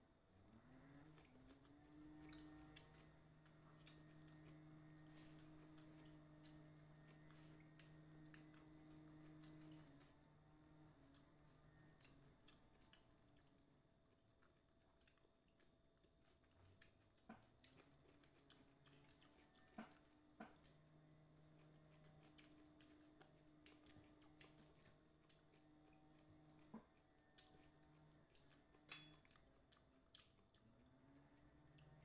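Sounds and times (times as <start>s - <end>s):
low steady hum: 0.0s - 32.0s
quiet chewing: 0.2s - 32.0s.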